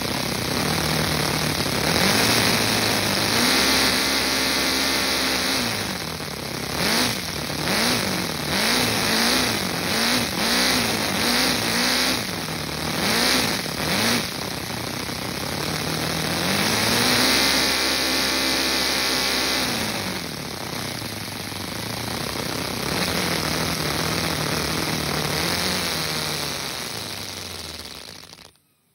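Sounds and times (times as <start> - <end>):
small engine revving: 0.0 - 28.9.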